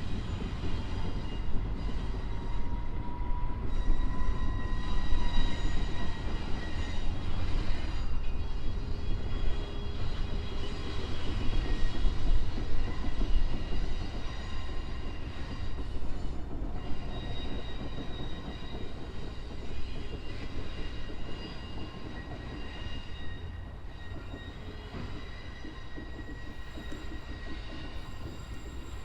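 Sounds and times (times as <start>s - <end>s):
train wheels squealing: 0.0s - 29.0s.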